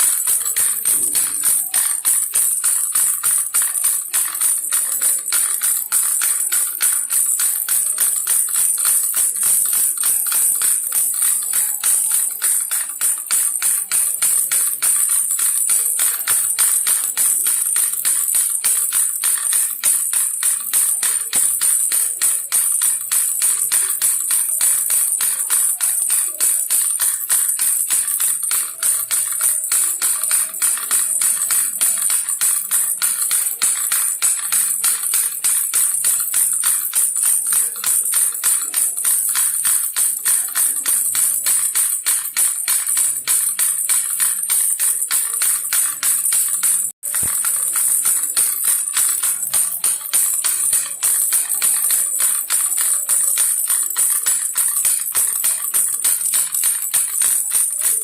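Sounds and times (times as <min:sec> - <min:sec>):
baby rattle shaken: 0:00.0 - 0:58.0.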